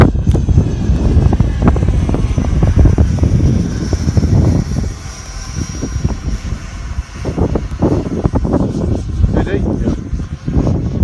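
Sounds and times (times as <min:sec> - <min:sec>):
model jet fan whine: 0:00.0 - 0:11.0
wind buffeting microphone: 0:00.0 - 0:11.0.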